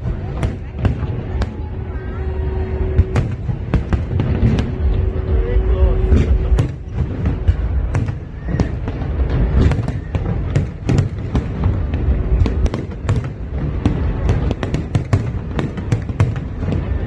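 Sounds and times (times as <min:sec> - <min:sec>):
fireworks cracking and popping: 0:00.0 - 0:01.8, 0:03.0 - 0:17.0
low rumble of booms: 0:00.0 - 0:17.0.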